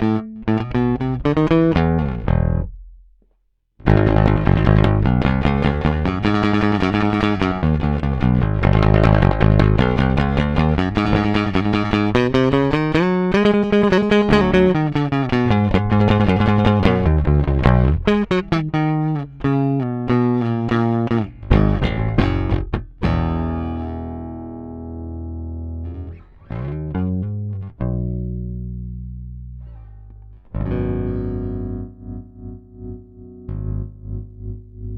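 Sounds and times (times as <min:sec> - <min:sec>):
bass guitar plucked notes: 0:00.0 - 0:03.2, 0:03.8 - 0:34.9.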